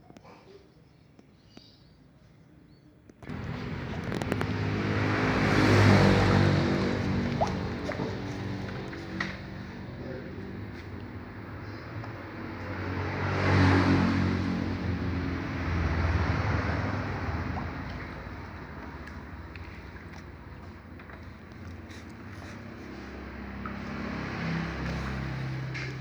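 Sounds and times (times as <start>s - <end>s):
traffic rushing past: 3.2s - 26.0s
low engine hum: 3.3s - 26.0s.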